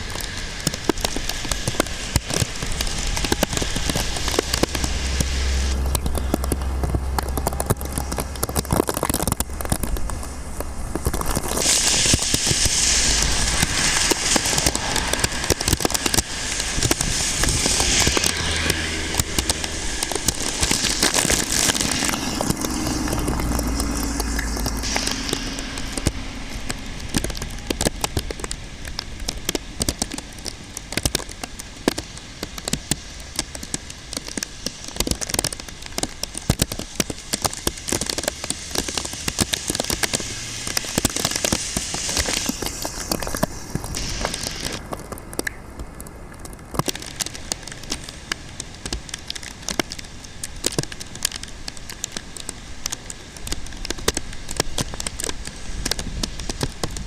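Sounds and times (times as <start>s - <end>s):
heavy rain rushing: 0.0s - 57.0s
raindrops pattering on a surface: 0.0s - 57.0s.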